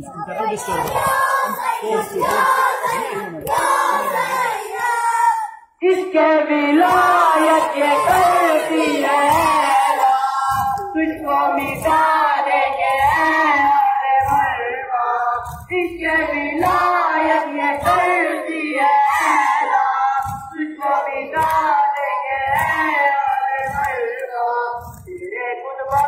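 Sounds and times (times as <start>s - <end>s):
boys singing a lament: 0.0s - 26.0s.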